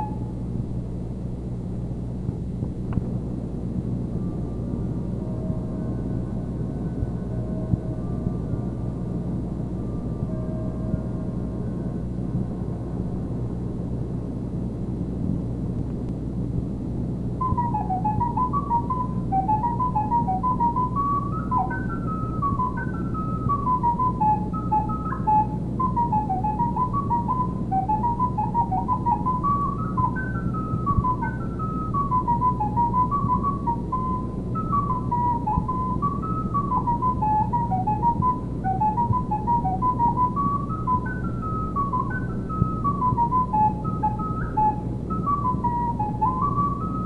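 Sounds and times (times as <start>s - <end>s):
recorder melody: 0.0s - 0.5s, 3.8s - 13.7s, 17.3s - 47.0s
low steady hum: 0.0s - 47.0s.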